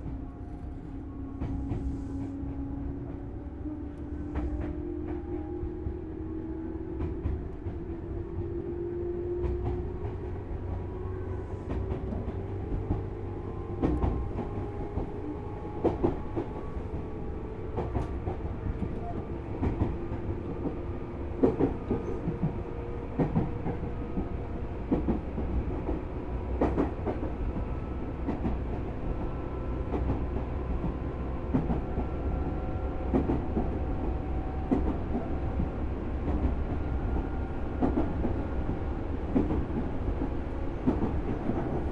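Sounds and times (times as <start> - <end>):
train running rumble: 0.0 - 41.9.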